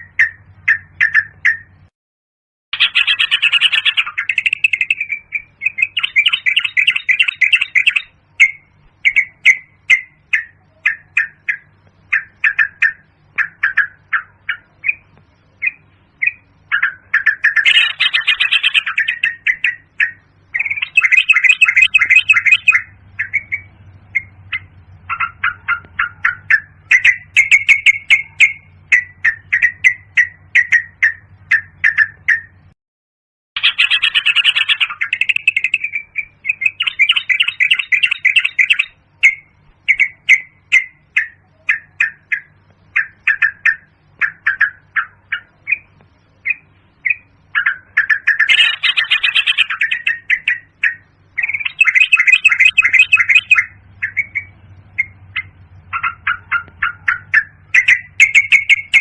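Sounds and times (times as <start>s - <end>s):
bird chattering calls: 0.0s - 1.8s, 2.8s - 32.7s, 33.6s - 59.0s
faint low hum: 2.8s - 32.8s, 33.6s - 59.0s.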